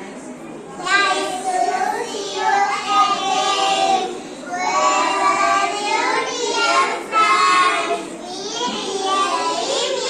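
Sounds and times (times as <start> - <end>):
child singing: 0.8 - 10.0.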